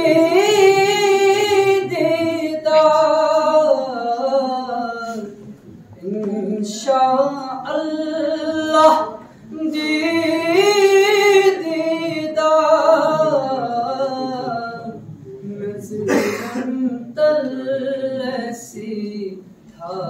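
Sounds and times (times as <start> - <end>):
man singing unaccompanied: 0.0 - 5.4, 6.0 - 20.0.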